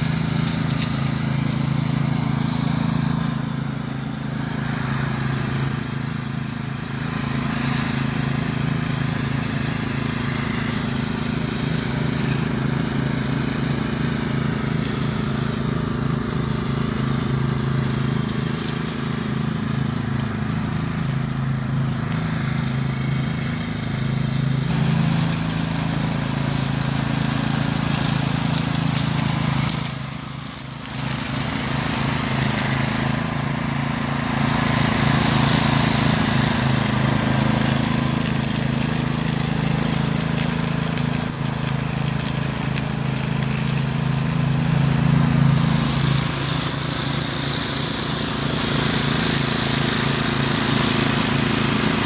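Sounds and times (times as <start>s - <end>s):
riding mower engine running: 0.0s - 52.0s.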